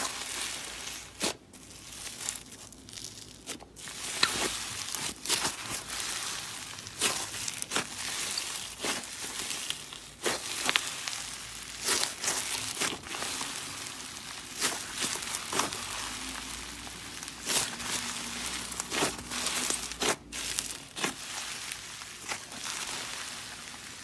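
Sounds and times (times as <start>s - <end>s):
slime squished wet crackling: 0.0s - 24.0s.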